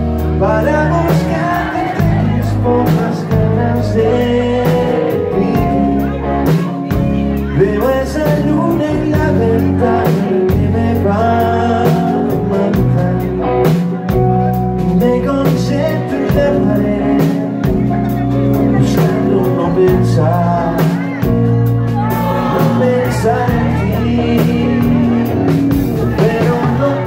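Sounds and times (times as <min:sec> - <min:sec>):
drum kit: 0:00.0 - 0:27.0
electric guitar: 0:00.0 - 0:27.0.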